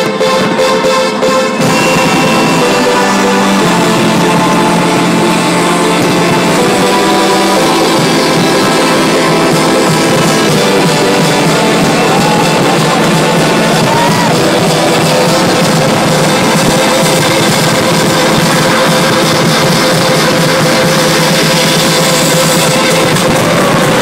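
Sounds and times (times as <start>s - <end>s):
rock music with guitar and drums: 1.5s - 24.0s.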